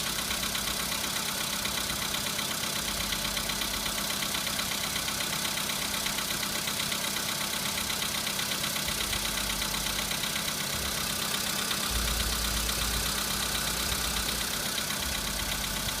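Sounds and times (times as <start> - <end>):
car engine running with knock: 0.0 - 16.0.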